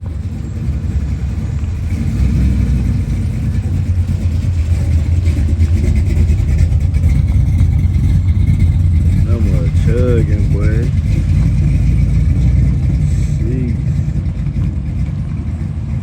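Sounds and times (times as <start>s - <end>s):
car engine exhaust rumble: 0.0s - 16.0s.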